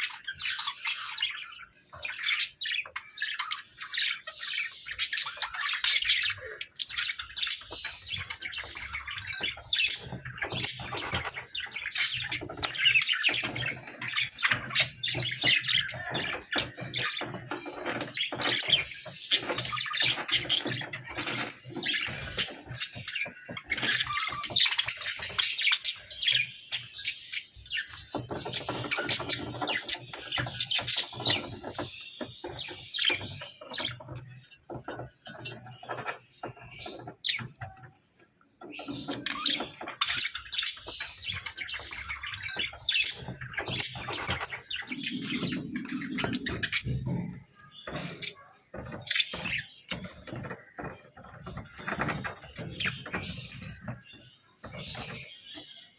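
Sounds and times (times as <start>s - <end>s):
budgerigars chirping: 0.0s - 55.9s.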